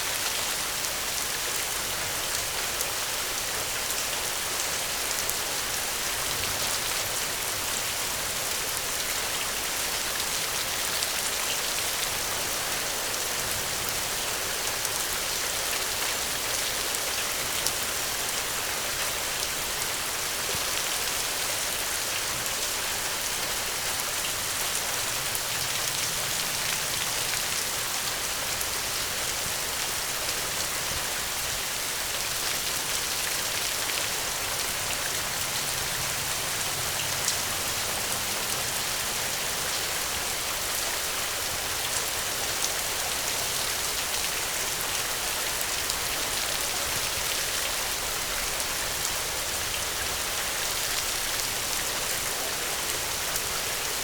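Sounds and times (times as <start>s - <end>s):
rain hissing and pattering: 0.0s - 54.0s.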